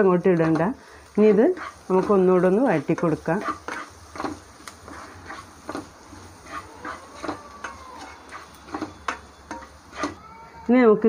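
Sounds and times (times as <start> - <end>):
spatula scraping pan: 0.0 - 10.3
onions sizzling: 0.0 - 11.0.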